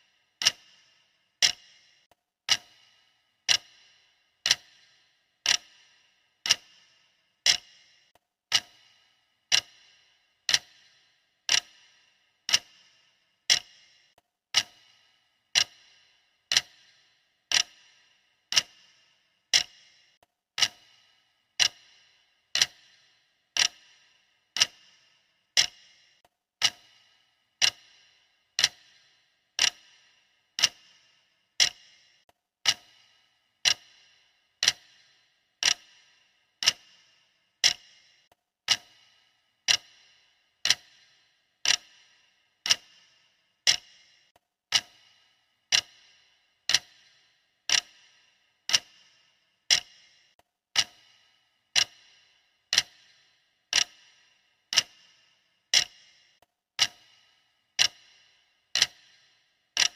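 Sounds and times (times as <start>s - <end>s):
clock ticking: 0.0s - 59.9s.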